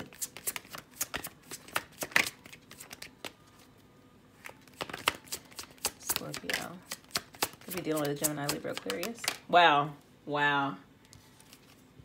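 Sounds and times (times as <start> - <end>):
cards being shuffled: 0.0 - 3.8, 4.4 - 9.4, 11.0 - 12.0.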